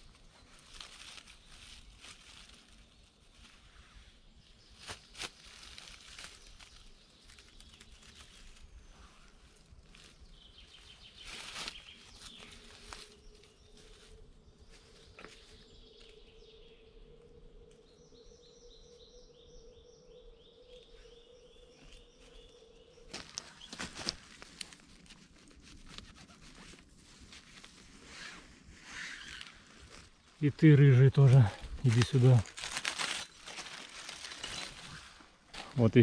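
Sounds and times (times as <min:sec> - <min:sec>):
dry leaves rustling and crackling: 0:00.0 - 0:16.1, 0:21.9 - 0:36.0.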